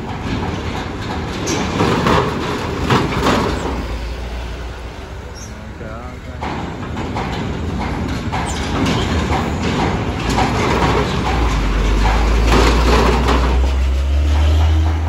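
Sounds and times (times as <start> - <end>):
deep truck engine drone: 0.0 - 15.0
tyres clanking over steel plates: 0.0 - 15.0.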